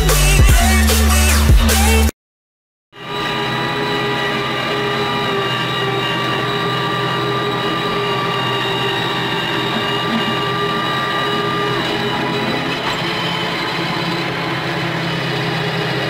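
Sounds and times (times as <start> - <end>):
high steady whine: 3.0 - 16.0
tractor engine drone: 3.0 - 16.0.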